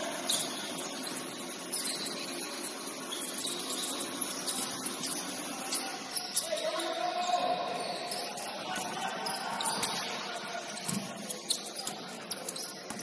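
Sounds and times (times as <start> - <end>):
faint voices: 0.0 - 13.0
shoe squeaks on gym court: 0.0 - 13.0.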